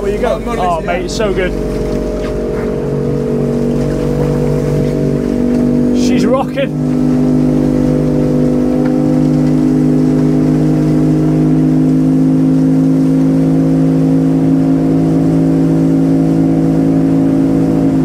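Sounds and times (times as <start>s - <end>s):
motorboat engine running steadily: 0.0s - 18.0s.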